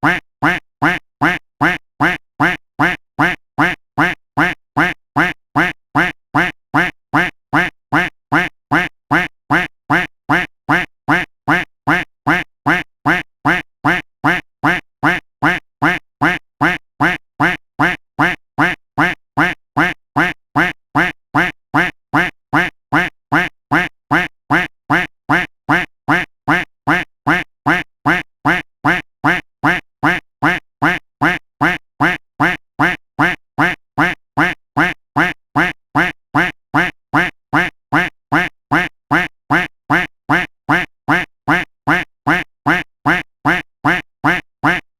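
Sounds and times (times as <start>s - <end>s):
duck quacking: 0.0s - 44.9s.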